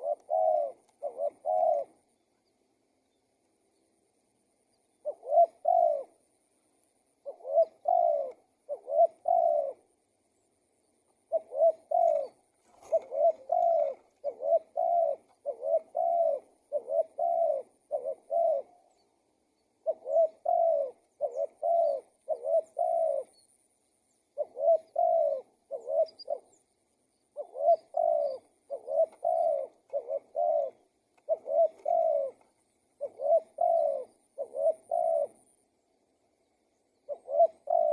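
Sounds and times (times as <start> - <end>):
dove cooing: 0.0 - 3.0, 3.6 - 37.9.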